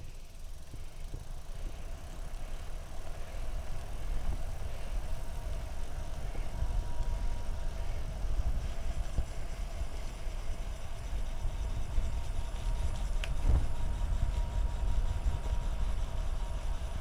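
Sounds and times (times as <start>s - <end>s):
tyre noise on road: 0.0s - 15.1s
steady hum: 0.0s - 17.0s
wind rumble on microphone: 0.0s - 17.0s.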